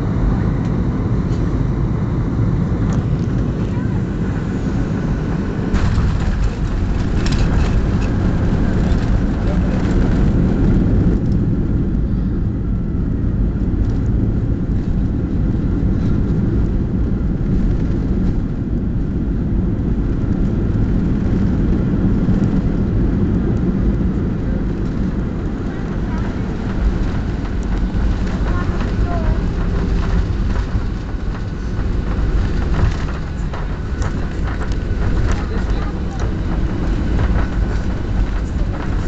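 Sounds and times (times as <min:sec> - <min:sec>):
airplane cabin roar: 0:00.0 - 0:39.0.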